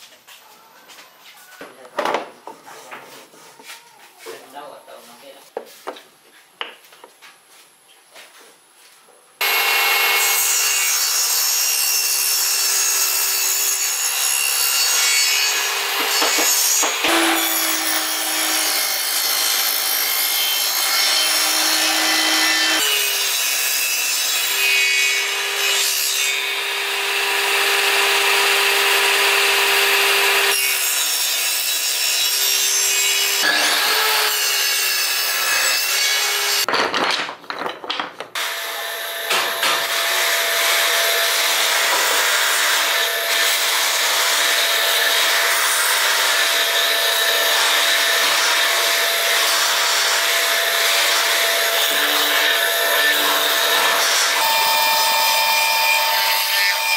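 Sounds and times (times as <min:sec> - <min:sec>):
table saw cutting wood: 0:09.4 - 0:36.7, 0:38.4 - 0:56.9.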